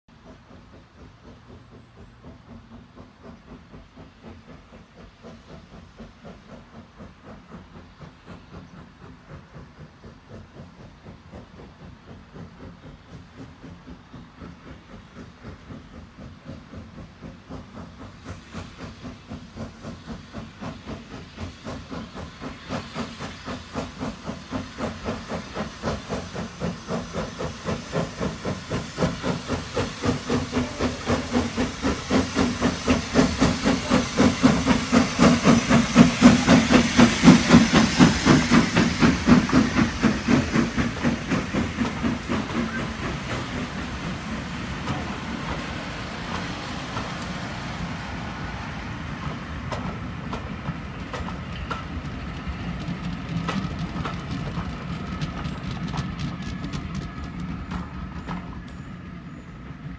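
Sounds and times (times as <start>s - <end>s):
steam hiss: 0.1s - 59.9s
steam locomotive chuffing: 0.1s - 59.9s
wheels rumbling on rail: 0.1s - 59.9s.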